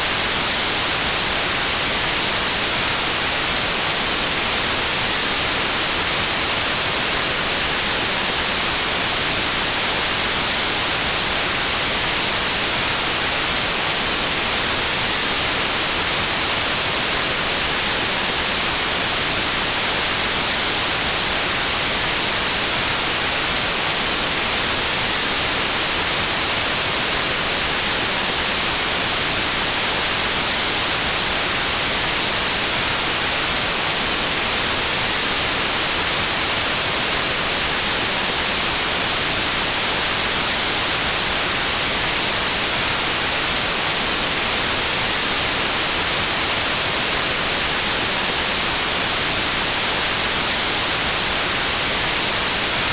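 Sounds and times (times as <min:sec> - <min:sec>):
white noise hiss: 0:00.0 - 0:52.9.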